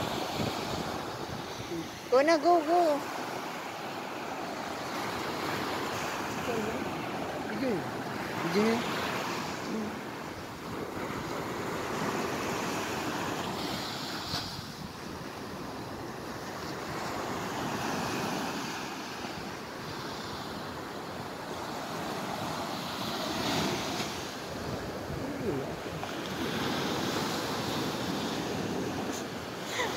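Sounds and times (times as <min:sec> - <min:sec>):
waves washing on shore: 0:00.0 - 0:29.9.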